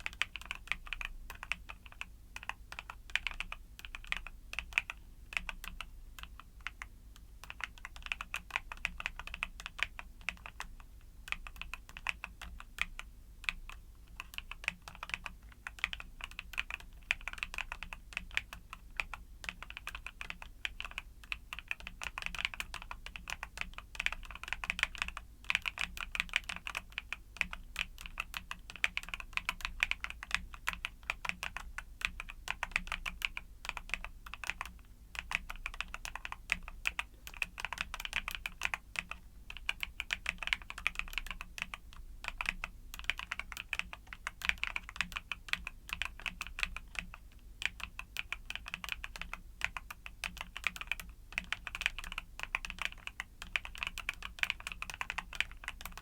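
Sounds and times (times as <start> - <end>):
typing on mechanical keyboard: 0.0 - 56.0.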